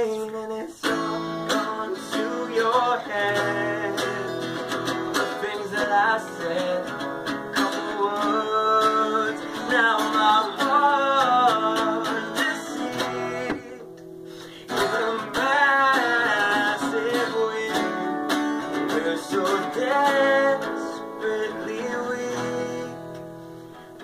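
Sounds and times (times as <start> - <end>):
person singing: 0.0 - 23.3
acoustic guitars strumming: 0.0 - 24.0.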